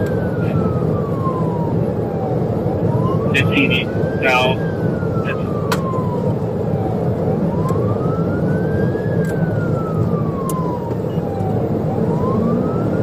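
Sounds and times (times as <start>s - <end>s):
car engine and road rumble: 0.0s - 13.0s
police siren wailing: 0.0s - 13.0s.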